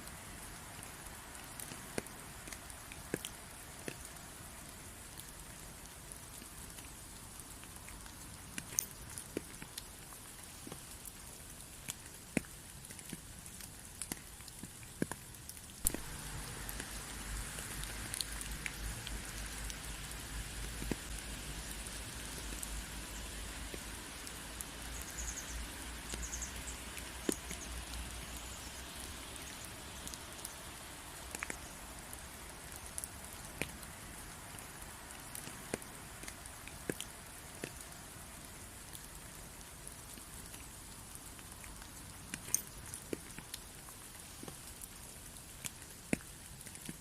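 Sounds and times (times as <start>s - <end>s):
raindrops ticking: 0.0s - 47.0s
steady rain falling: 0.0s - 47.0s.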